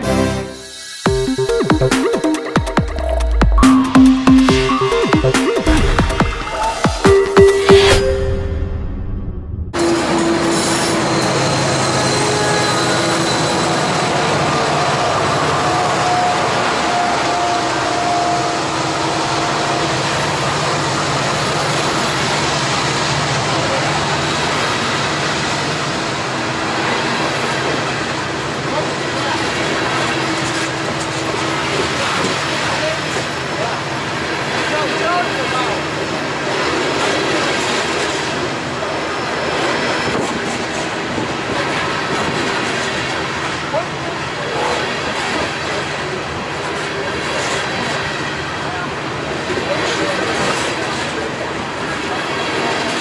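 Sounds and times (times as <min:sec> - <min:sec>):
diesel locomotive passing: 0:00.0 - 0:53.0
steel wheels rumbling on rail: 0:09.7 - 0:53.0.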